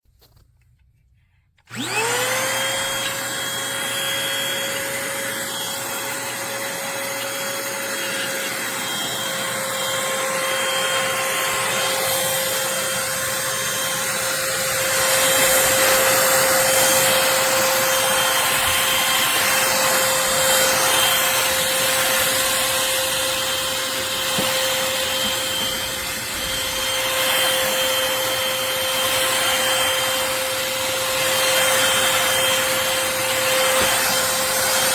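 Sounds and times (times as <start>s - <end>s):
vacuum motor high whine: 1.7s - 34.9s.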